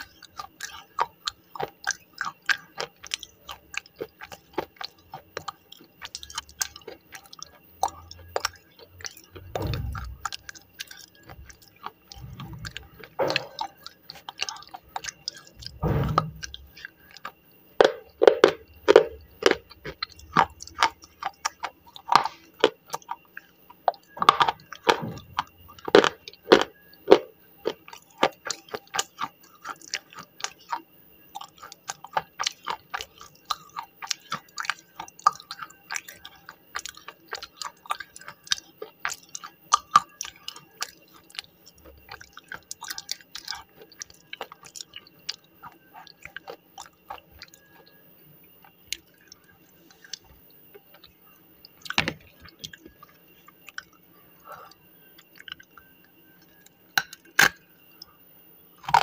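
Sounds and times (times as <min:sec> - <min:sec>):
chewing crunches: 0:00.0 - 0:58.2, 0:58.8 - 0:59.0.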